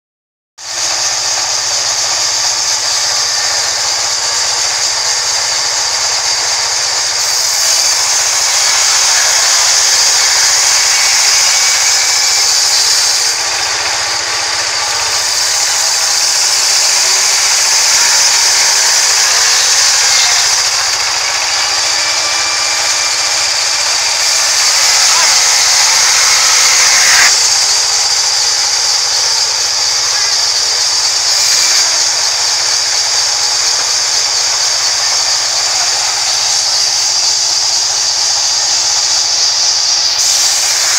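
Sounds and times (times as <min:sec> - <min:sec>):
band saw cutting log: 0:00.6 - 0:40.9.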